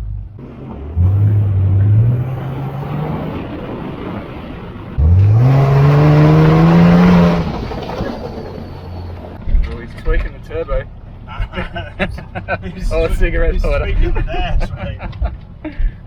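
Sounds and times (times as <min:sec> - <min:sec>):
pickup engine accelerating: 0:00.0 - 0:14.0.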